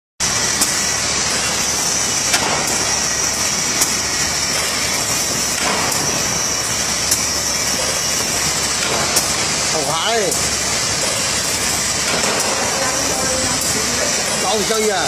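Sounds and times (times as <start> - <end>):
sharp machine clicks: 0.2 - 15.0
welding machine mechanical hiss: 0.2 - 15.0.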